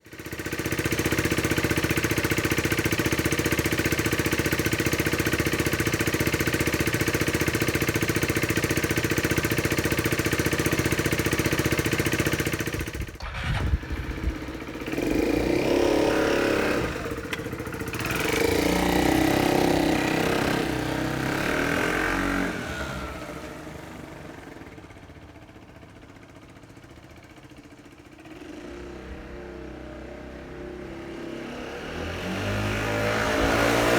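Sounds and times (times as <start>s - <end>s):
scooter engine running and revving: 0.0s - 33.9s.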